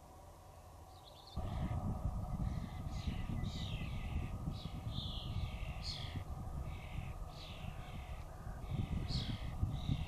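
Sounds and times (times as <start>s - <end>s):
birds giving harsh falling calls: 0.5s - 10.0s
steady low rumble: 1.4s - 10.0s.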